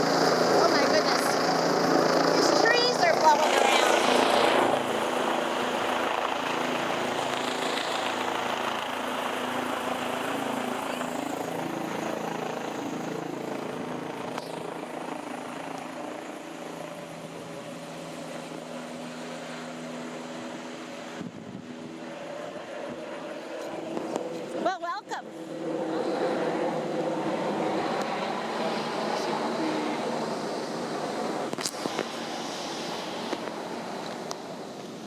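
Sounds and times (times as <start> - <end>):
helicopter rotors and engine: 0.0 - 35.0.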